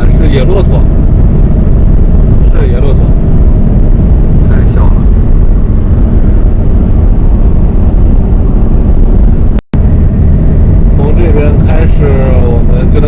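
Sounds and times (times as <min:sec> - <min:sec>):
engine tyre and wind rumble: 0:00.0 - 0:13.0.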